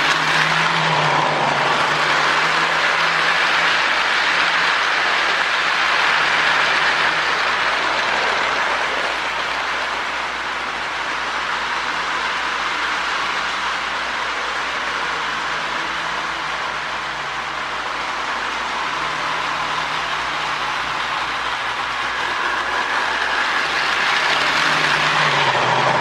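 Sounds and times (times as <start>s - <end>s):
toy train motor whirring on track: 0.0s - 26.0s.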